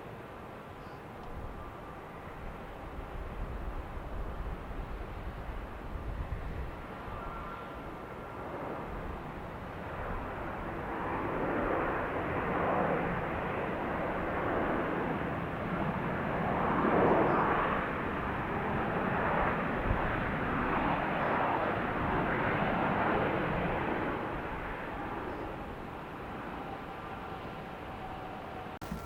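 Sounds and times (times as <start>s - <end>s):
airplane engines rushing: 0.0s - 29.0s.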